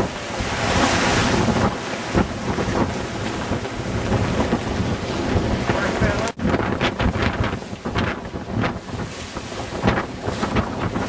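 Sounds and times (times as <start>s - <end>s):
waves and rushing water: 0.0s - 11.0s
wind buffeting microphone: 0.0s - 11.0s.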